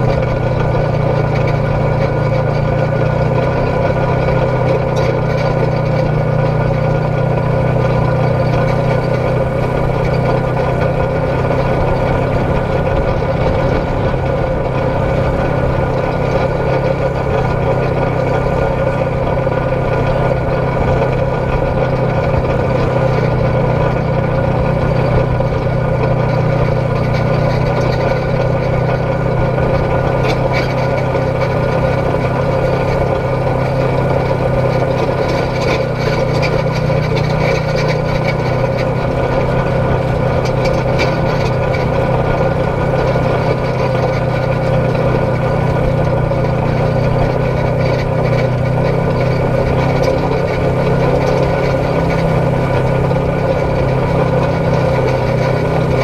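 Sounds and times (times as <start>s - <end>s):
vehicle engine running steadily: 0.0s - 56.0s.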